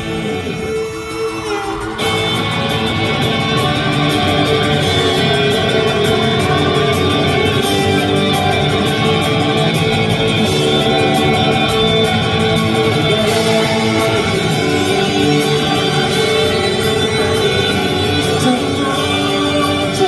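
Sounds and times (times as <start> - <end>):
drums and cymbals: 0.0 - 20.0
electric guitar: 0.0 - 20.0.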